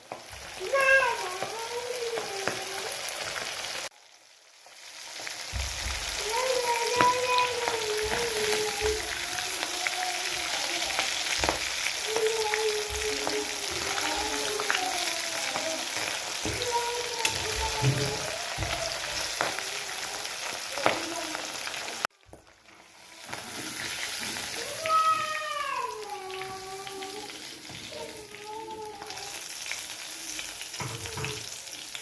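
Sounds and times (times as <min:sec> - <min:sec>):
deep-frying sizzle in oil: 0:00.0 - 0:32.0.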